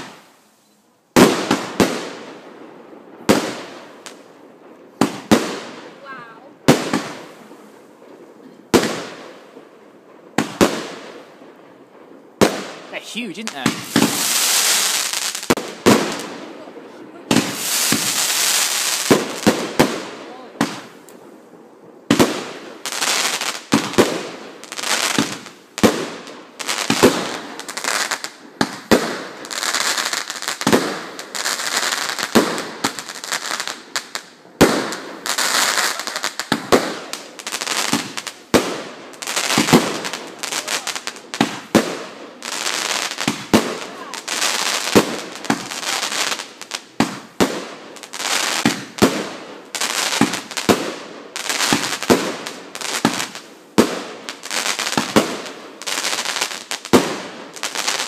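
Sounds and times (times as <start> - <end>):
fireworks bangs: 0.0 - 0.4, 1.1 - 58.0
fireworks hissing crackle: 0.0 - 58.0.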